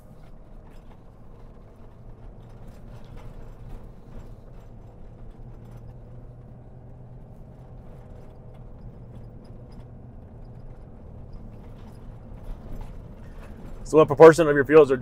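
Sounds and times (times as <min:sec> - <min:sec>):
engine and tyre rumble: 0:00.0 - 0:15.0
knocks and rattles: 0:00.2 - 0:14.4.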